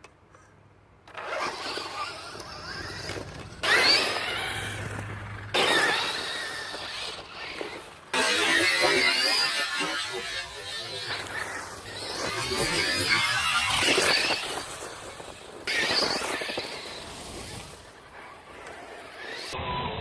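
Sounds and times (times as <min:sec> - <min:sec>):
electric motor whining: 0:01.1 - 0:19.6
tyres rushing on loose ground: 0:01.2 - 0:19.6.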